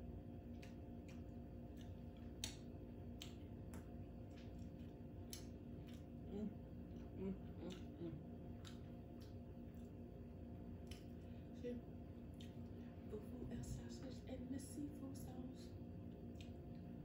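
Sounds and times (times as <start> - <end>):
steady low hum: 0.0 - 17.0
wet chewing and finger-licking: 0.1 - 13.0, 16.0 - 17.0.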